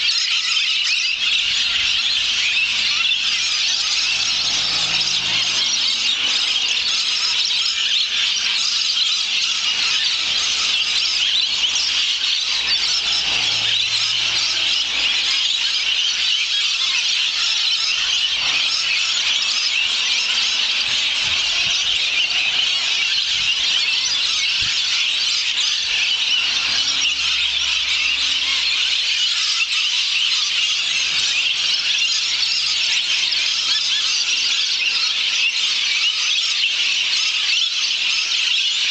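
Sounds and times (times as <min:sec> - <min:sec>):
lorikeets screeching: 0:00.0 - 0:38.9.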